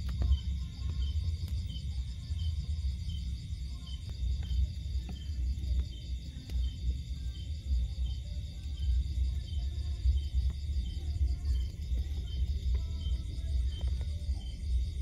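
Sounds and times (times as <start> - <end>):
cricket chirping: 0.0 - 15.0
high-pitched insect trill: 0.0 - 15.0.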